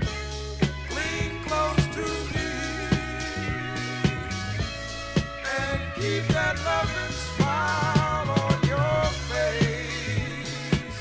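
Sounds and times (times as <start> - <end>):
bass line: 0.0 - 11.0
drum kit beat: 0.0 - 11.0
held instrumental notes: 0.0 - 11.0.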